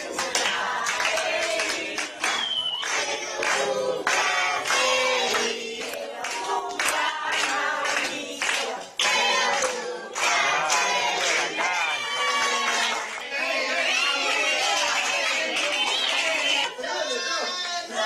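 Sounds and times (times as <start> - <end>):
group singing in chorus: 0.0 - 16.8
people clapping: 0.0 - 18.0.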